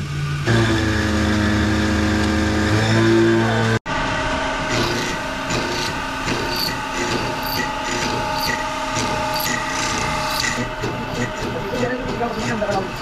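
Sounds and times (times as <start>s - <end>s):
milling machine motor whine: 0.0s - 13.0s.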